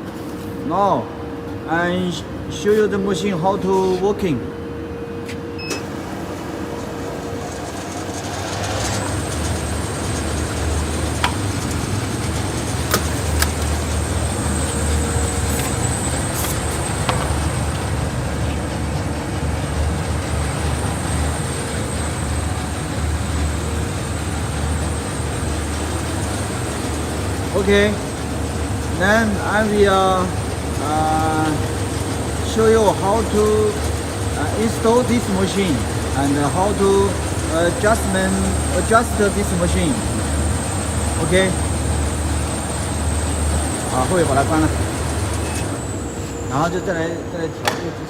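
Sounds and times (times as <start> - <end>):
machine motor hum and whine: 0.0 - 48.0.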